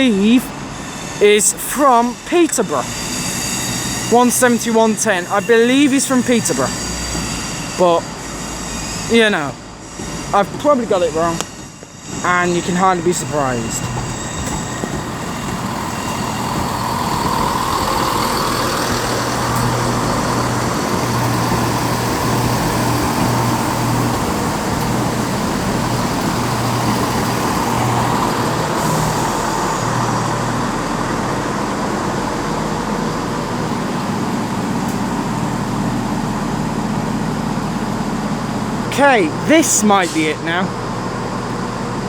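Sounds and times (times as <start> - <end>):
diesel engines humming: 0.0 - 42.0.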